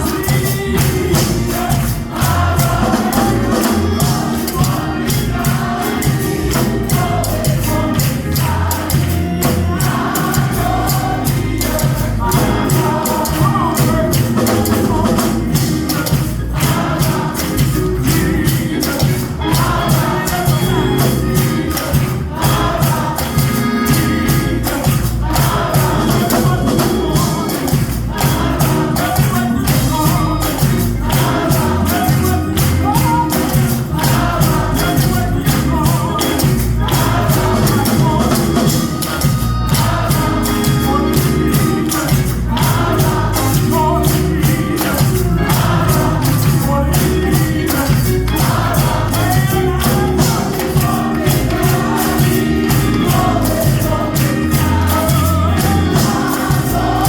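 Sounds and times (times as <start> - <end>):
drums beating: 0.0 - 57.0
tambourine: 0.0 - 57.0
voices singing gospel: 0.0 - 57.0.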